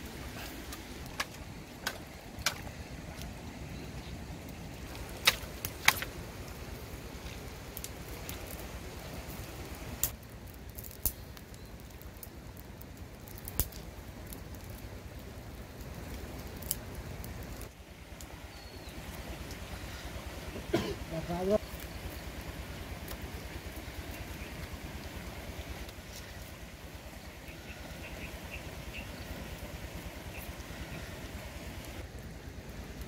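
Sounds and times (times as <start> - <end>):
outdoor background noise: 0.0 - 33.0
twig fire popping: 0.0 - 33.0.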